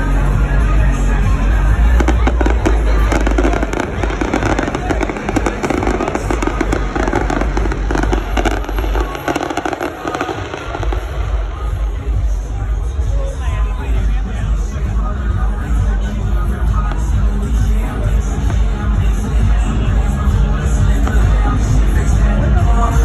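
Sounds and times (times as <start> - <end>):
bass-heavy music: 0.0 - 23.0
crowd voices: 0.0 - 23.0
fireworks popping and crackling: 1.8 - 14.2, 14.8 - 23.0.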